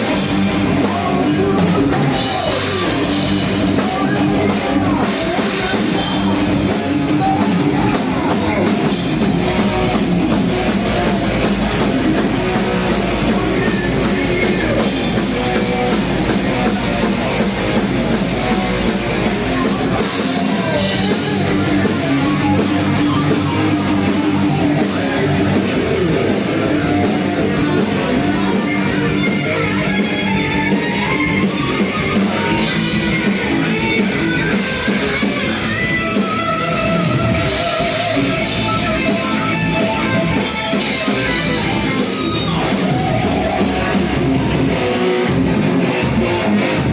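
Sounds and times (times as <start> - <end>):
distorted electric guitar: 0.0 - 46.9
drum kit: 0.0 - 46.9.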